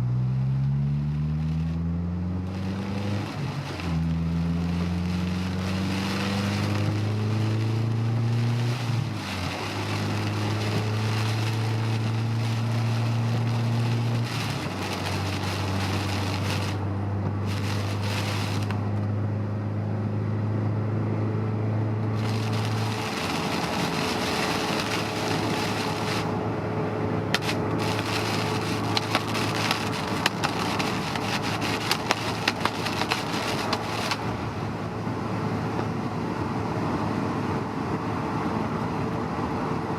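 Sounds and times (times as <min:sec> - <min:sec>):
tyre and rain hiss on wet road: 0:00.0 - 0:19.2, 0:22.0 - 0:39.9
car engine cruising: 0:00.0 - 0:39.9.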